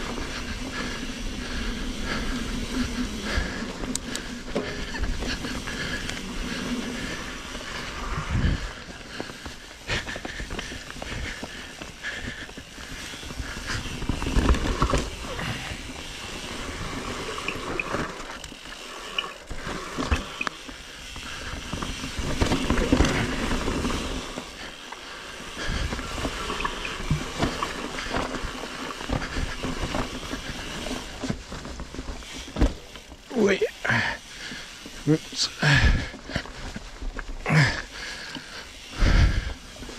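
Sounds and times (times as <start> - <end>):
bike knocking and rattling: 0.0 - 39.9
bike tyres on loose soil: 0.0 - 39.9.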